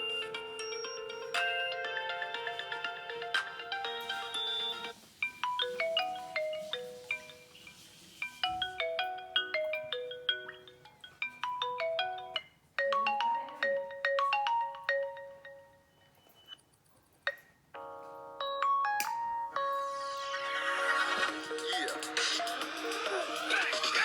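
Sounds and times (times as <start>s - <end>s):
phone ringtone melody: 0.0s - 16.6s, 17.8s - 24.0s
ringtone with held notes: 0.0s - 16.6s, 17.3s - 24.0s.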